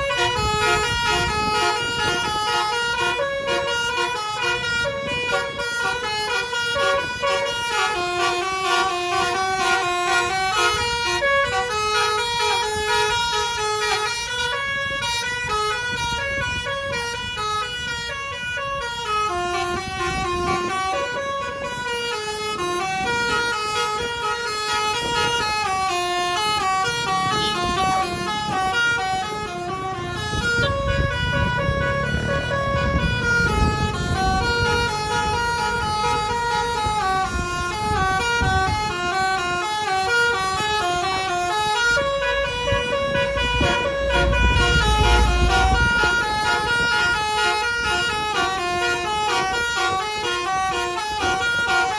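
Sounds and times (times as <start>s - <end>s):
bus engine: 0.0s - 51.9s
electric trumpet horns playing tune: 0.0s - 51.9s
road rumble: 0.0s - 51.9s.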